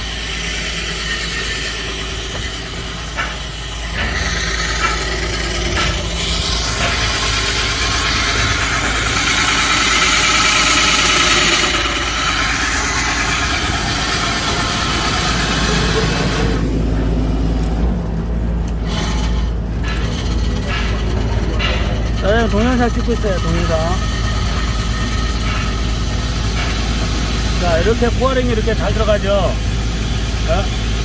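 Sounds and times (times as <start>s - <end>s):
core drill grinding rock: 0.0s - 31.0s
excavator engine running: 0.0s - 31.0s.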